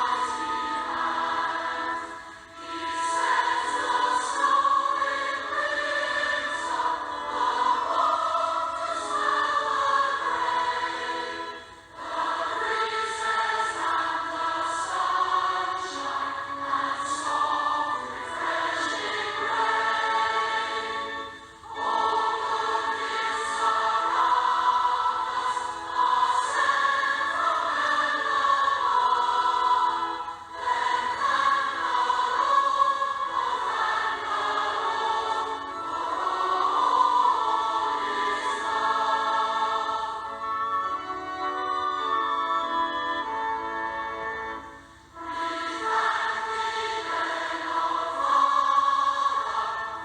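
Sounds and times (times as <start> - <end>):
choir singing a hymn: 0.0 - 50.0.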